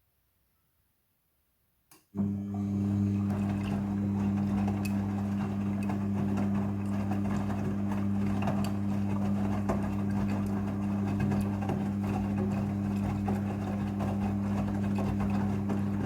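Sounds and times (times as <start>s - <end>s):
washing machine motor hum: 2.2s - 16.0s.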